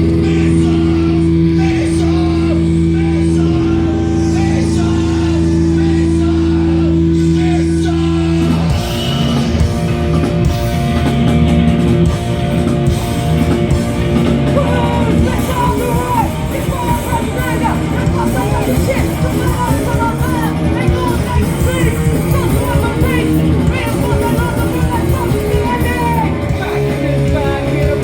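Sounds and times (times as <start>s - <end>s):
shouted vocals: 0.0s - 9.8s, 14.2s - 28.0s
punk band playing live: 0.0s - 28.0s.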